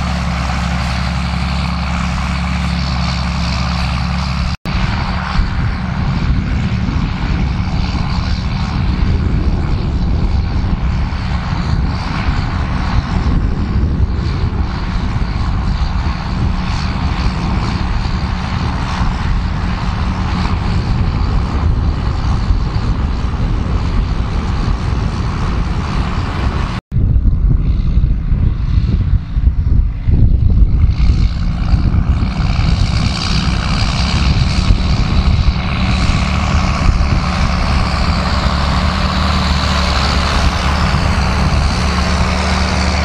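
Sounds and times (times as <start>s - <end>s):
tractor diesel engine under load: 0.0s - 26.8s, 27.4s - 43.0s.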